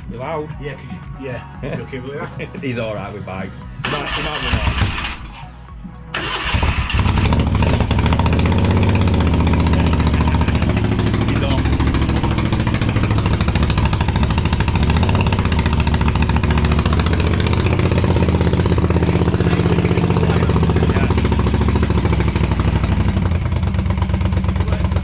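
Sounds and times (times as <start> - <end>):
motorcycle idling loudly: 3.8 - 5.3, 6.2 - 25.0.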